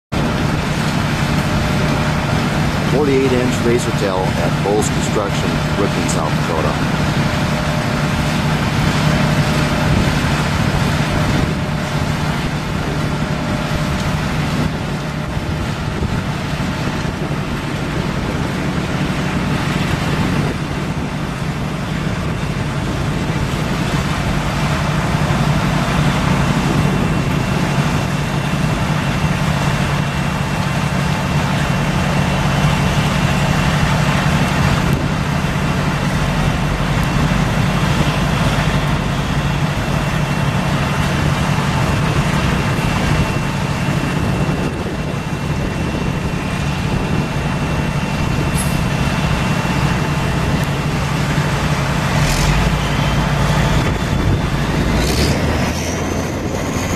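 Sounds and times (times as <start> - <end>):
diesel truck engine rumbling: 0.1 - 56.9
truck unloader and conveyors droning: 0.1 - 56.9.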